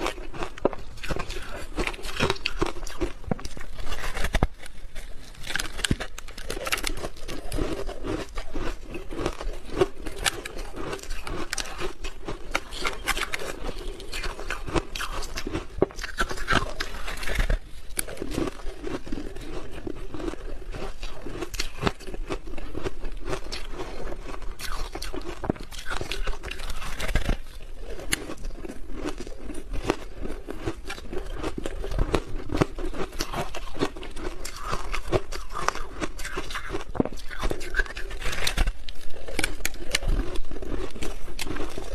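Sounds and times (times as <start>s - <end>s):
ice being bitten and chewed: 0.0s - 41.9s.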